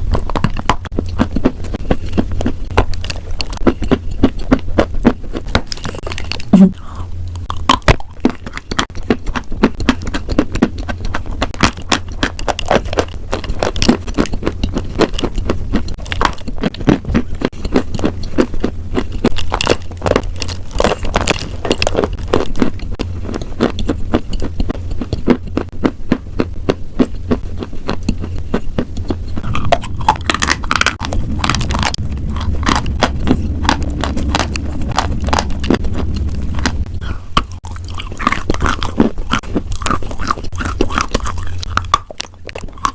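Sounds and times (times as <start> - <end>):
chewing crunchy food: 0.0 - 42.9
steady low hum: 0.0 - 42.9.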